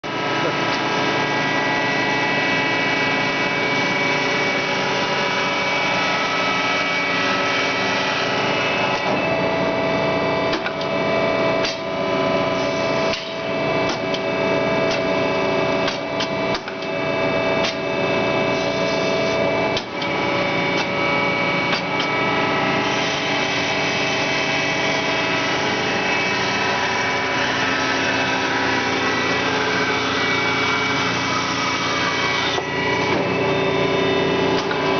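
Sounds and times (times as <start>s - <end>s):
band saw humming and whining: 0.0s - 34.9s.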